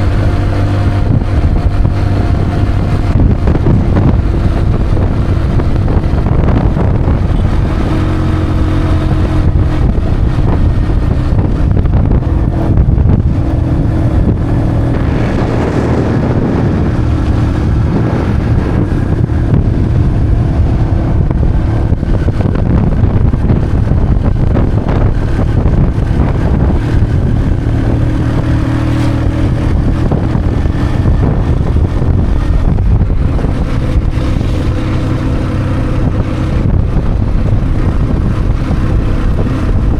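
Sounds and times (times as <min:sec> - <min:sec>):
small motorcycle engine running: 0:00.0 - 0:39.9
wind on microphone: 0:00.0 - 0:39.9.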